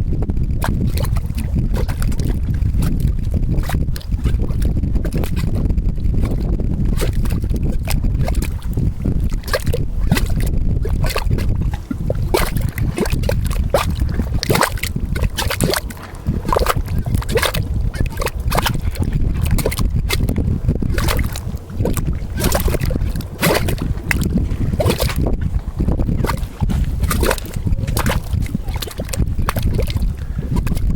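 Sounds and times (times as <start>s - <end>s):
low rumble: 0.0s - 30.9s
mud bubbling and popping: 0.0s - 30.9s.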